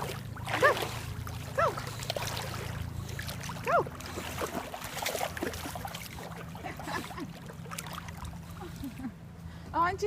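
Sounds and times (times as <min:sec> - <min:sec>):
dog splashing through water: 0:00.0 - 0:08.8.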